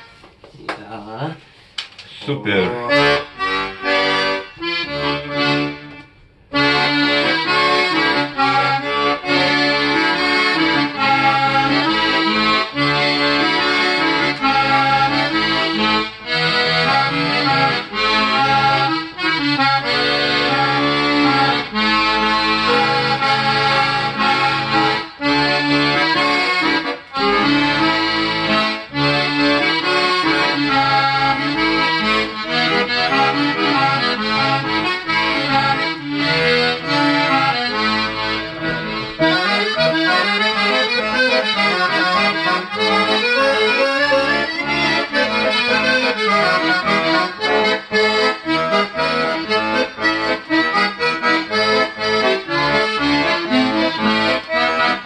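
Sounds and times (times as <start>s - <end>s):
accordion playing tune: 0.0s - 0.4s, 1.4s - 55.0s.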